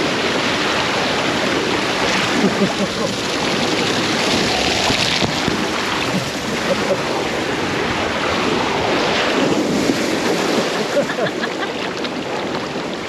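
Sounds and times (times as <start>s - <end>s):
water rushing and sloshing: 0.0s - 13.0s.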